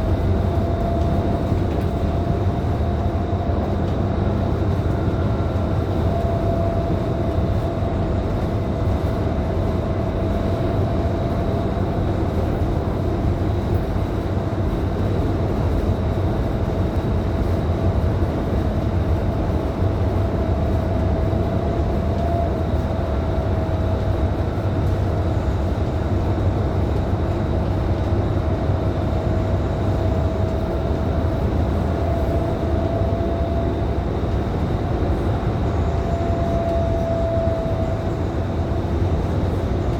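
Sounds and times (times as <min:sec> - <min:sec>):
bus diesel drone: 0:00.0 - 0:39.9
constant high whine: 0:00.0 - 0:39.9
road and tyre noise: 0:00.0 - 0:39.9.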